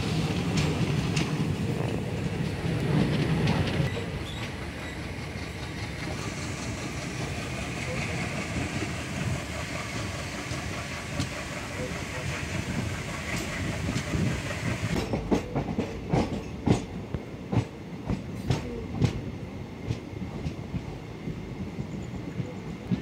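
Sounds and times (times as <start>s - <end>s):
train wheels clacking: 0.0s - 21.4s.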